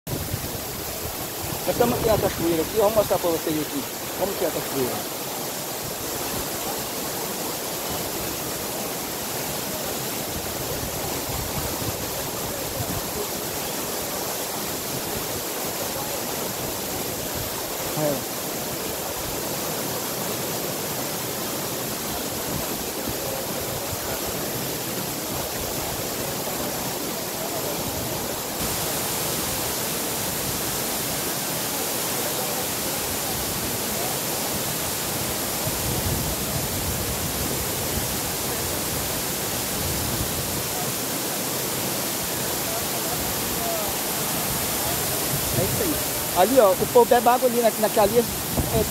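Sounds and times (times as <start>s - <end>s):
waterfall rushing: 0.1s - 48.9s.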